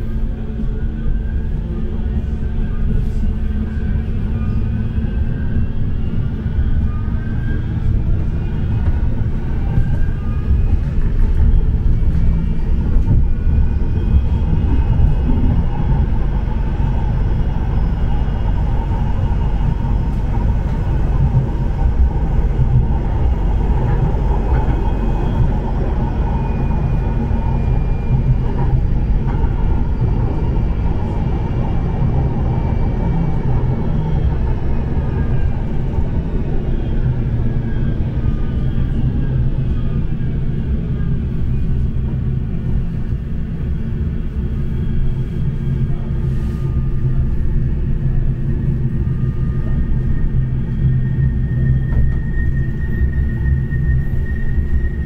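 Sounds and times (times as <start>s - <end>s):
tram wheels rumbling on rail: 0.0s - 55.0s.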